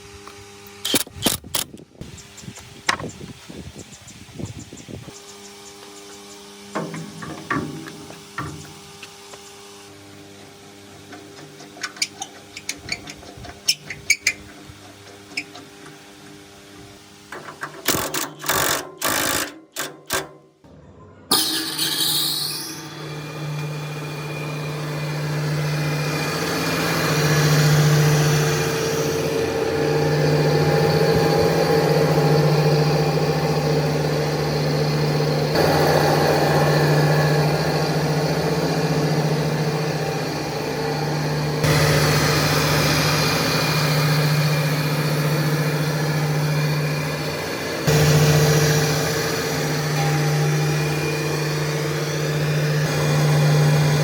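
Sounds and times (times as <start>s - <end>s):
sawmill machine humming: 4.9s - 19.3s, 21.3s - 54.0s.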